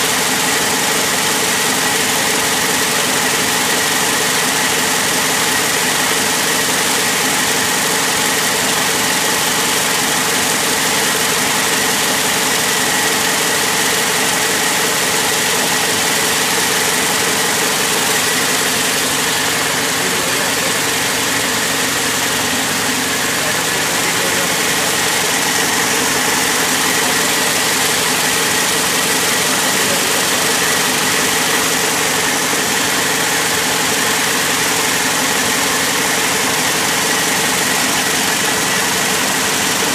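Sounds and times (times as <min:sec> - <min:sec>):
braiding machines mechanical din: 0:00.0 - 0:39.9.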